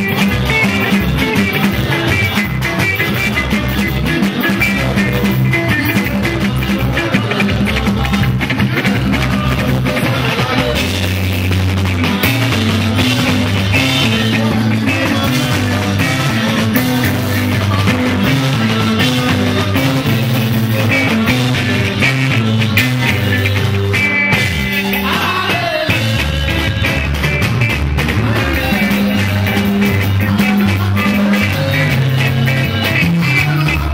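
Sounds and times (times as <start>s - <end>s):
drum kit with cymbals: 0.0s - 33.9s
electric guitars: 0.0s - 33.9s
person singing: 0.0s - 33.9s
pulsing bass line: 0.0s - 33.9s.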